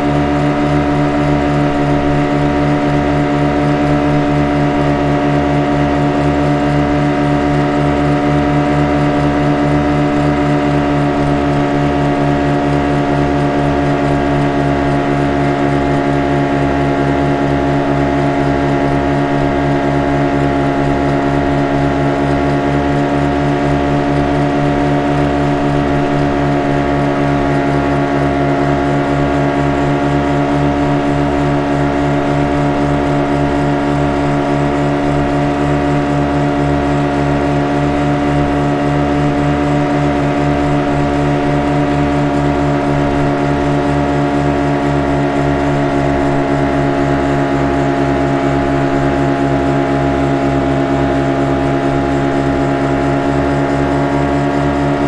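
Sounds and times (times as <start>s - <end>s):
speed boat engine running: 0.0s - 55.0s.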